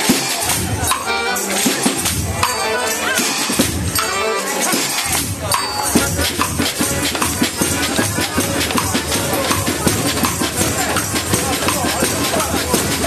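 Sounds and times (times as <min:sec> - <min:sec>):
voices over the beat: 0:00.0 - 0:13.0.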